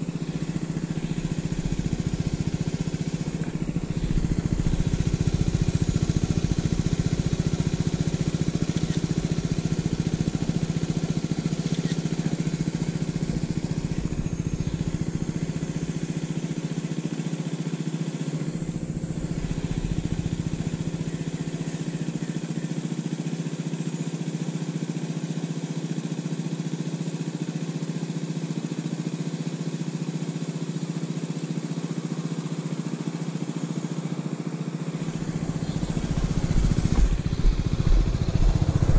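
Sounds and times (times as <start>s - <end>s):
motor scooter engine idling: 0.0s - 38.9s.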